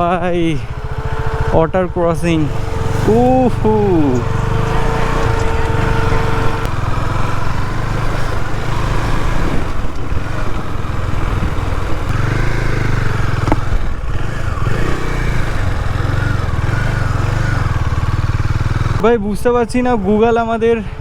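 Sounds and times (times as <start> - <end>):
motorcycle engine running: 0.0 - 20.4.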